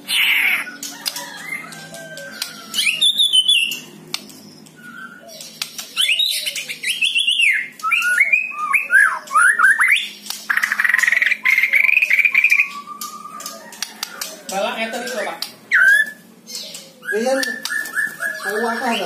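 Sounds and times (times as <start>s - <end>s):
songbird whistling and trilling: 0.1s - 3.8s, 4.7s - 13.8s, 15.7s - 19.0s.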